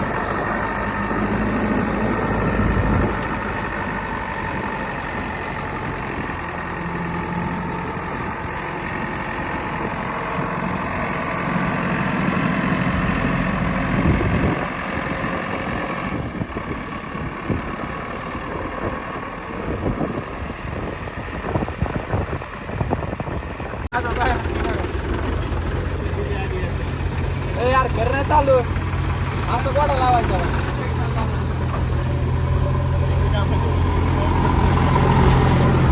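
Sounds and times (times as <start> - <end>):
heavy diesel machinery engine: 0.0 - 35.9.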